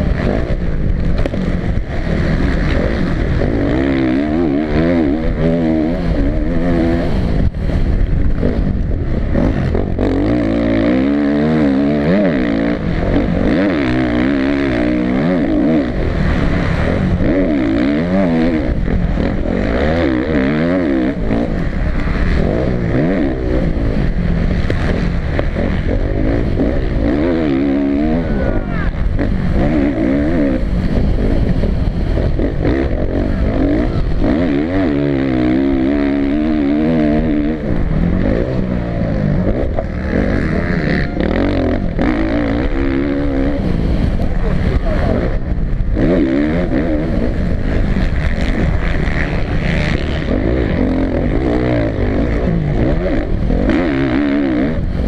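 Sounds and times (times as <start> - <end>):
motocross bike engine revving: 0.0 - 55.0
wind rushing over microphone: 0.0 - 55.0.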